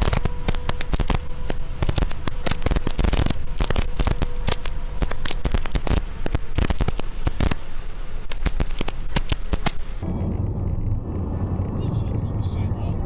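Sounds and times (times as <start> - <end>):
heavy rain on a vehicle roof: 0.0 - 13.0.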